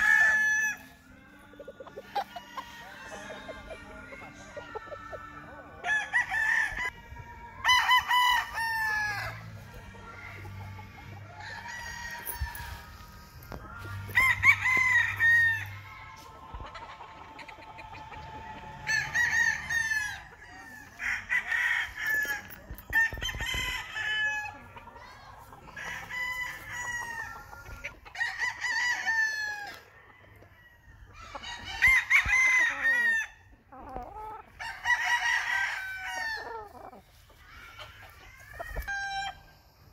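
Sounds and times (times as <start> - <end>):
chicken crowing and clucking: 0.0 - 39.9.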